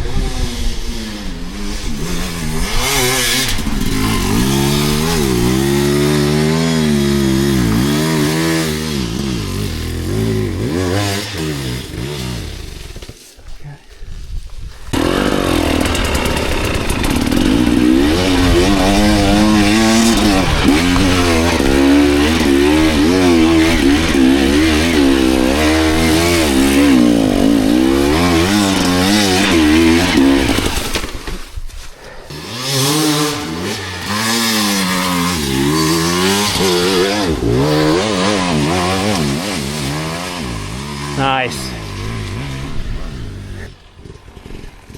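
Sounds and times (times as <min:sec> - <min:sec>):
dirt bike engine revving: 0:00.0 - 0:13.3, 0:14.8 - 0:44.9.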